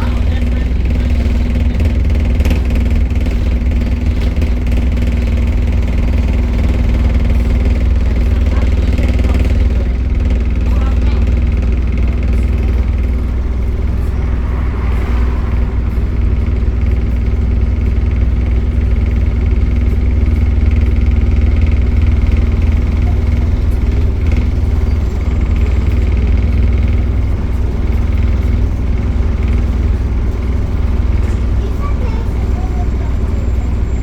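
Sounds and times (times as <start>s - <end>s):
bus diesel engine rumble: 0.0s - 34.0s.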